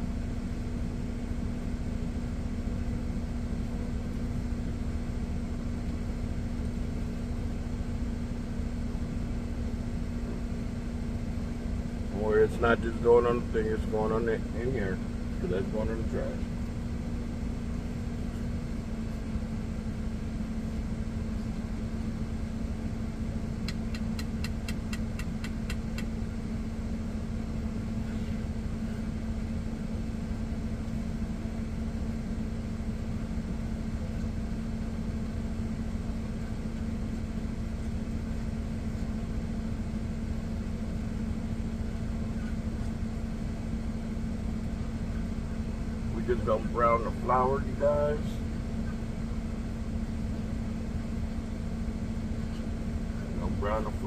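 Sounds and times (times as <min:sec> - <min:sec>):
constant hum: 0:00.0 - 0:54.0
truck engine idling: 0:00.0 - 0:54.0.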